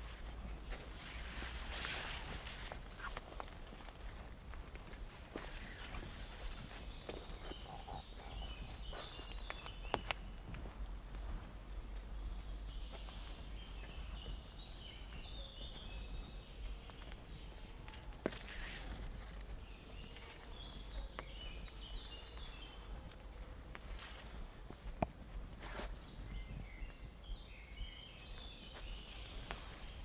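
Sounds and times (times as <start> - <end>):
footsteps on forest path: 0.0 - 30.0
songbird singing: 0.0 - 30.0.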